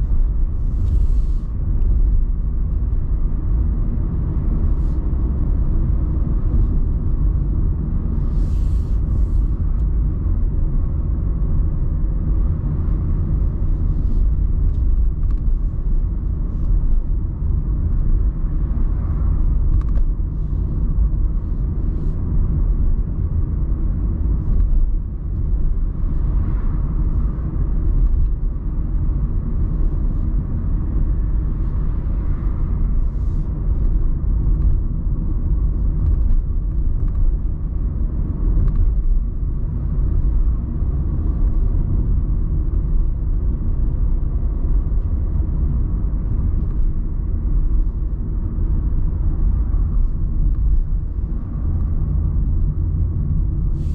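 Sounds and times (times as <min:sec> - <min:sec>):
road noise rumble in car: 0:00.0 - 0:53.9.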